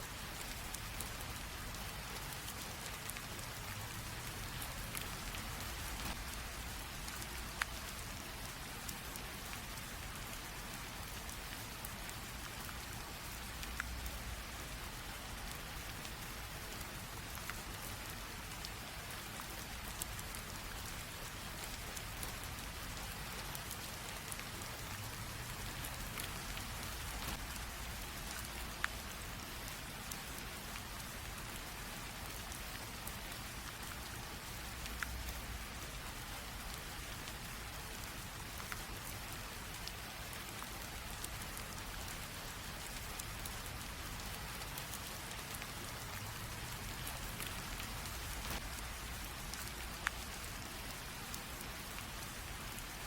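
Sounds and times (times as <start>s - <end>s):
light rain falling: 0.0s - 53.0s
raindrop ticks: 0.2s - 53.0s.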